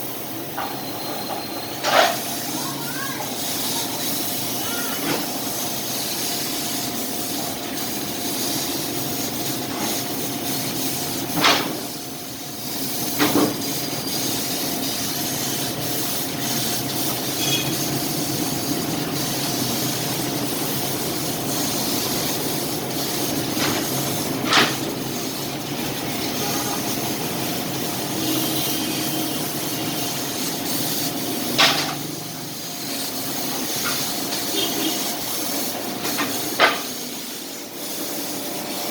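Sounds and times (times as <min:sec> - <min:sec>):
laser cutter hiss and hum: 0:00.0 - 0:38.9.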